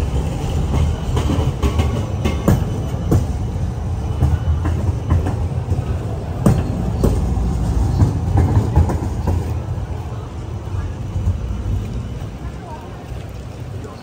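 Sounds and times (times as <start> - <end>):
tram rumbling: 0.0 - 14.0
tram wheels clacking: 0.0 - 14.0.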